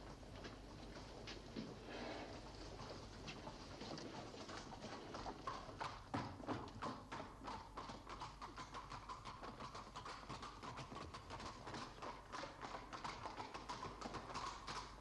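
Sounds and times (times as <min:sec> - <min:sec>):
horse hooves on paving: 0:00.0 - 0:15.0.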